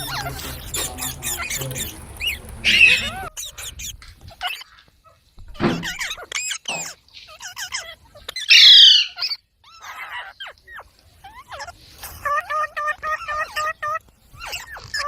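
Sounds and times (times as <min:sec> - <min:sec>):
parrot chirping and whistling: 0:00.0 - 0:04.6, 0:05.8 - 0:10.5, 0:11.4 - 0:15.0
parrot squawk: 0:00.0 - 0:15.0.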